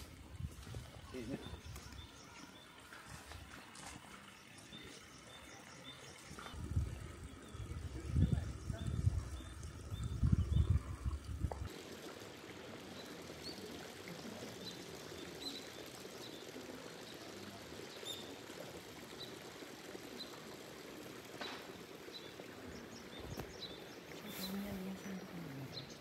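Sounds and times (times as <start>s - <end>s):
running water hiss: 0.0s - 26.0s.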